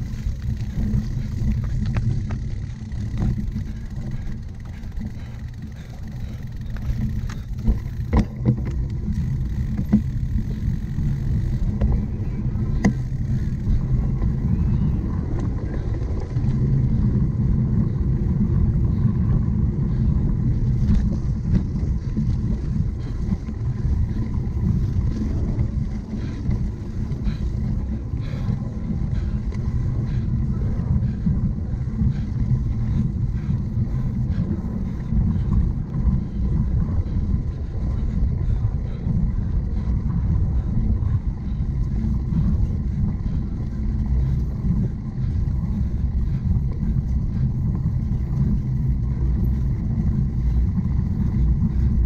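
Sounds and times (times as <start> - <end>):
bike riding over rough ground: 0.0 - 52.0
wind buffeting microphone: 0.0 - 52.0.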